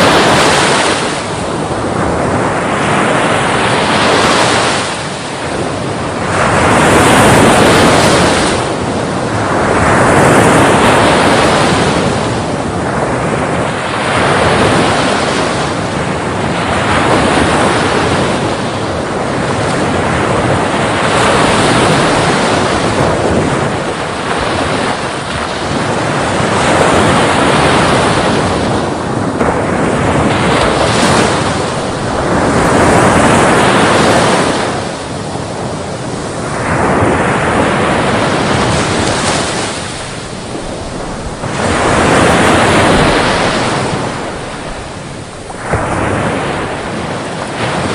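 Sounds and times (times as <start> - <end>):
sea waves breaking: 0.0 - 47.9.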